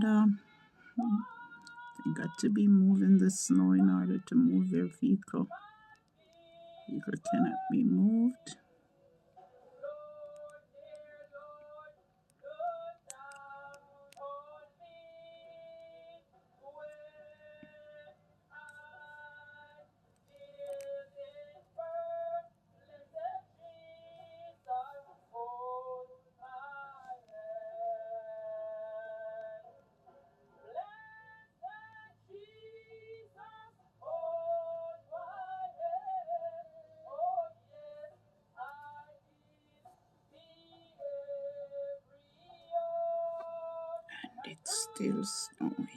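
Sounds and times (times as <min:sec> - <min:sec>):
faint high-pitched singing: 0:00.0 - 0:29.8, 0:30.6 - 0:45.9.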